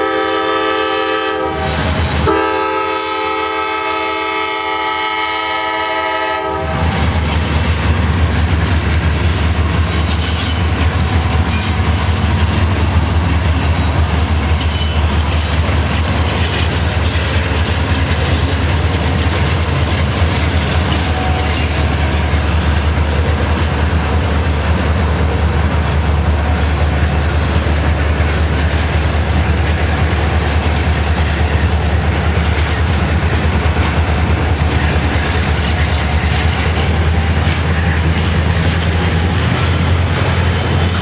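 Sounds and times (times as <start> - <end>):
freight train rumbling past: 0.0 - 41.0
wheels clacking over rail joints: 5.6 - 41.0.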